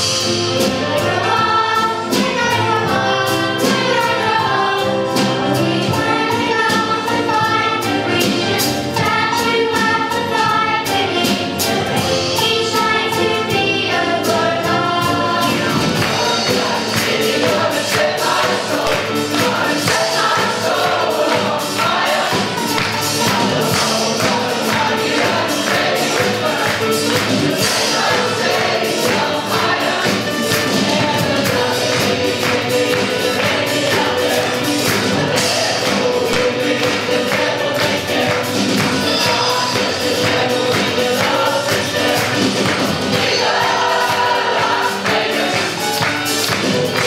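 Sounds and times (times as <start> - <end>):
backing music with steady beat: 0.0 - 47.0
chorus singing upbeat song: 0.0 - 47.0.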